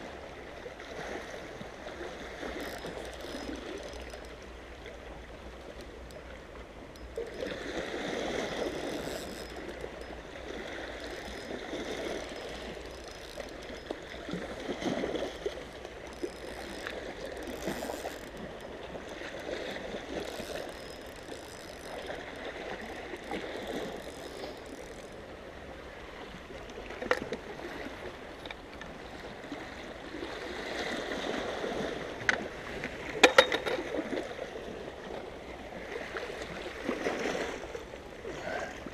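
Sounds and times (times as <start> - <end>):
waves lapping against rocks: 0.0 - 38.9.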